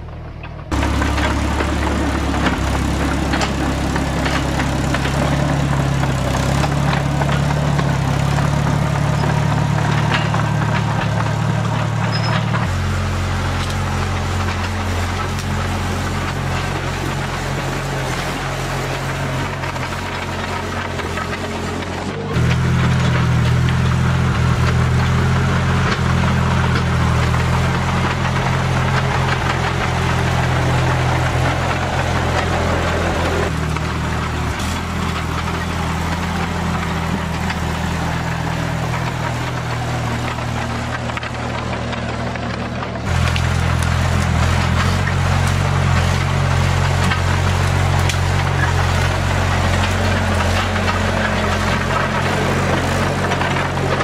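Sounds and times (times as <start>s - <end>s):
dozer engine running: 0.0s - 54.0s.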